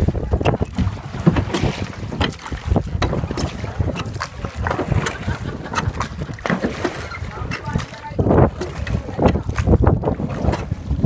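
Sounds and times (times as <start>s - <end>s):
oar splashing through water: 0.0s - 11.0s
wind rumbling on microphone: 0.0s - 11.0s
oar knocking in metal oarlock: 0.4s - 10.8s.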